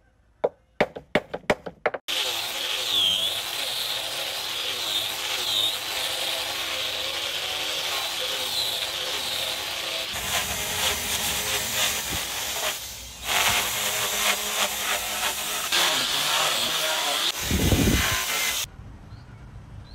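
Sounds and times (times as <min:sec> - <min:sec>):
angle grinder sanding wood: 0:02.1 - 0:18.7.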